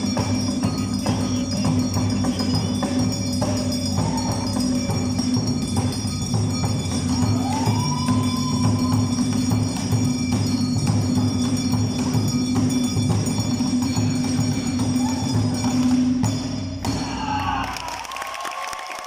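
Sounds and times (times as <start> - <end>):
steady drum beat: 0.0 - 17.5
ringing bells and metal percussion: 0.0 - 18.2.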